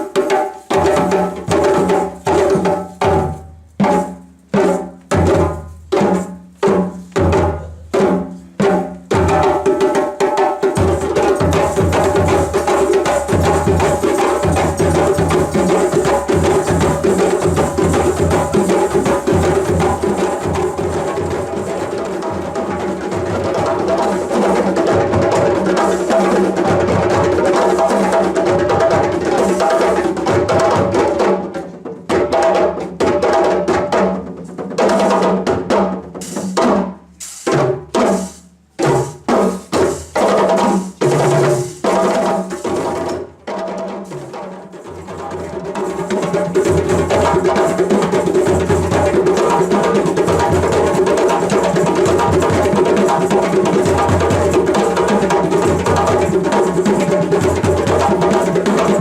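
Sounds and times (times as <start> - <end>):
percussion ensemble drumming: 0.0 - 59.0.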